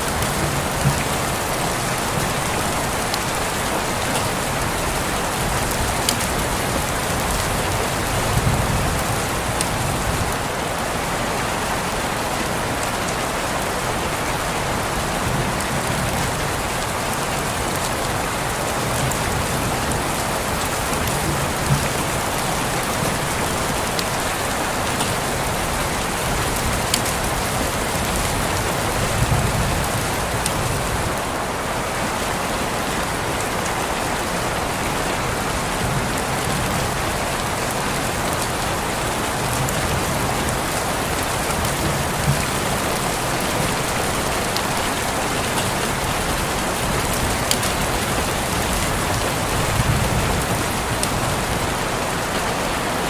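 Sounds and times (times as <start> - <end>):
rain on a window: 0.0 - 53.0.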